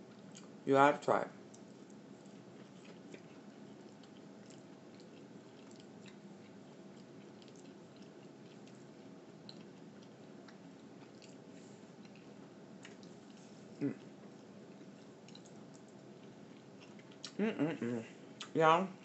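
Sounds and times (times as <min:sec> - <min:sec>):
low steady hum: 0:00.0 - 0:19.0
person chewing: 0:01.5 - 0:17.4.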